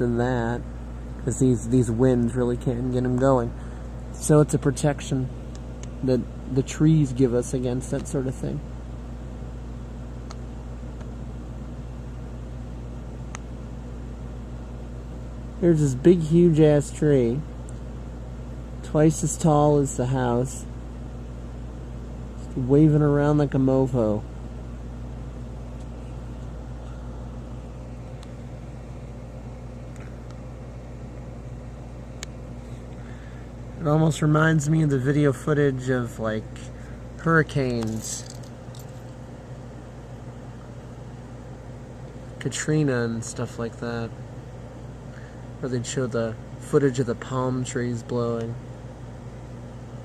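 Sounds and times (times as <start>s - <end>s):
low even hum: 0.0s - 50.0s.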